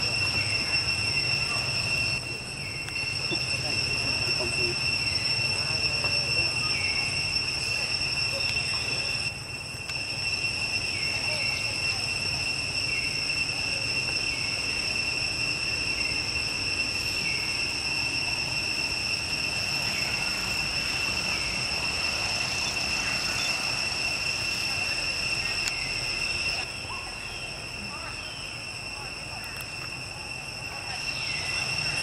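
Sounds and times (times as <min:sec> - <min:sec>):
high-pitched insect drone: 0:00.0 - 0:32.0.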